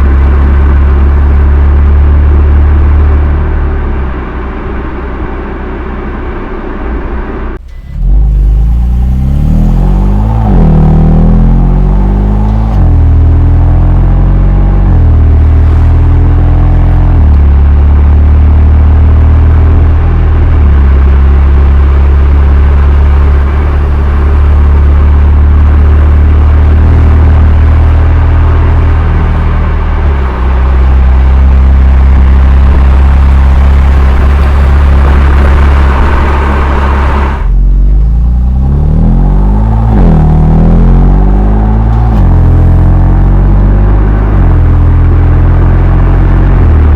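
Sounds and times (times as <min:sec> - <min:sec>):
car exhaust drone: 0:00.0 - 0:46.9.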